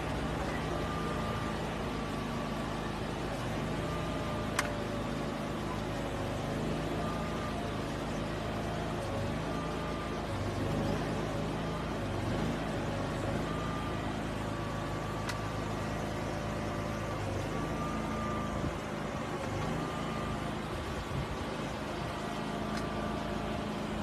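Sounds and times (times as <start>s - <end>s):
faint high whine: 0.0s - 24.0s
machine engine low hum: 0.0s - 24.0s.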